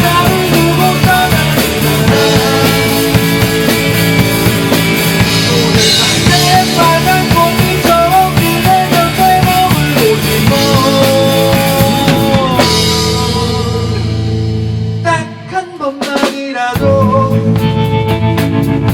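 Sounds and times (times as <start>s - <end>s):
drum kit: 0.0s - 18.9s
rock band playing live: 0.0s - 18.9s.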